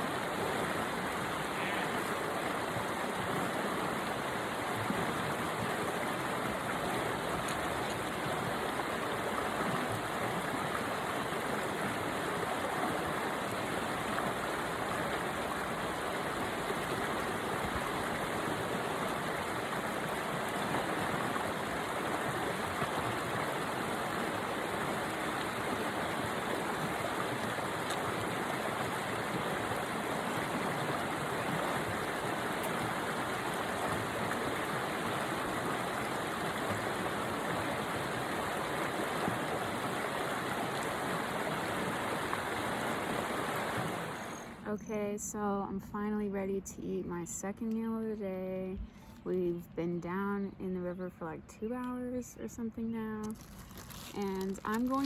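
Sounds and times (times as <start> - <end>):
river rushing: 0.0 - 44.6.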